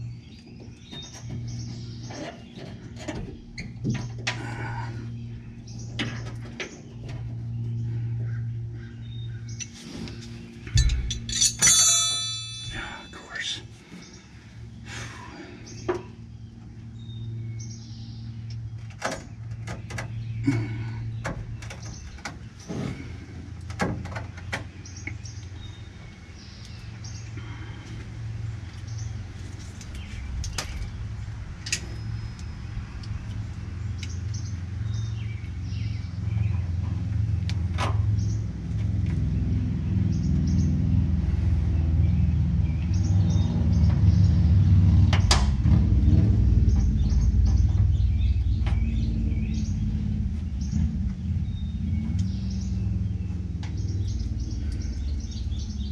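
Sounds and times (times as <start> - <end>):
steady low rumble: 0.0 - 55.9.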